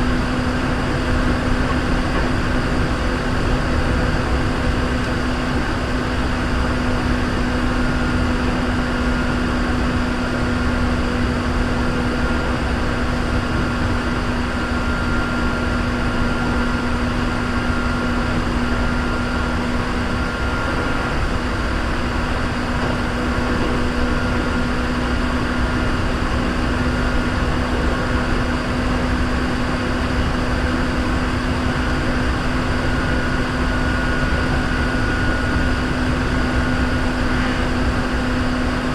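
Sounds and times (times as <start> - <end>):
low motor hum: 0.0 - 38.9
train wheels rumbling on track: 0.0 - 38.9.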